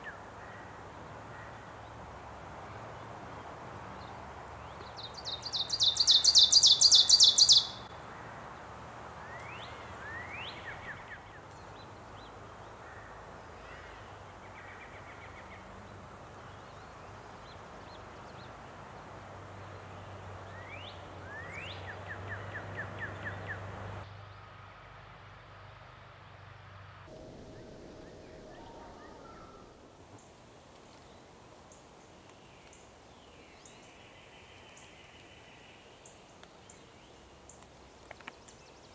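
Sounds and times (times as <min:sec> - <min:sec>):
faint birdsong with rising trills: 0:00.0 - 0:38.9.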